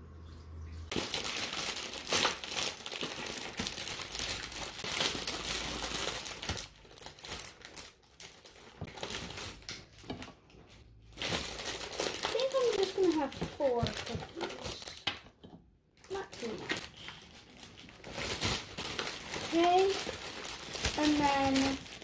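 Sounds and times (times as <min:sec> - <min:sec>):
wrapper crinkling: 0:00.9 - 0:15.4, 0:16.0 - 0:22.0.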